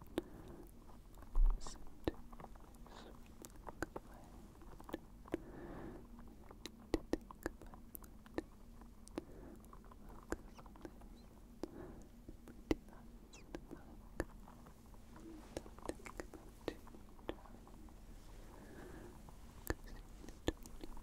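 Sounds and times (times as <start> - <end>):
soft hiss: 0.0 - 21.0.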